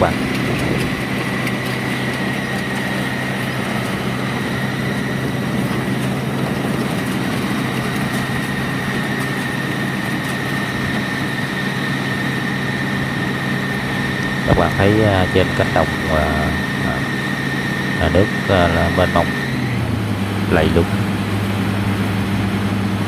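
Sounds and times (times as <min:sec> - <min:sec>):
combine harvester engine running: 0:00.0 - 0:23.0
high whine: 0:00.0 - 0:23.0.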